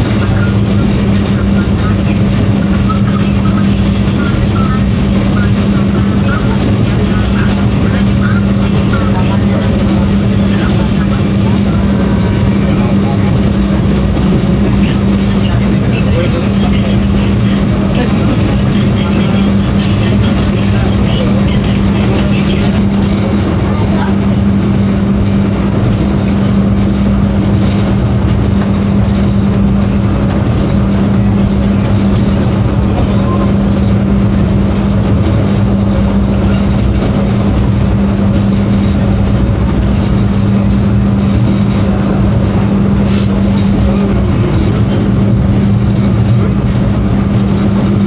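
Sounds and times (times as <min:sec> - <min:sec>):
constant low hum: 0:00.0 - 0:48.0
train wheels rumbling on track: 0:00.0 - 0:48.0.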